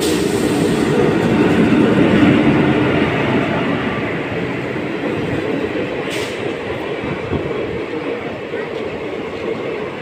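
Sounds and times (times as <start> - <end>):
train coaches rushing past: 0.0 - 10.0.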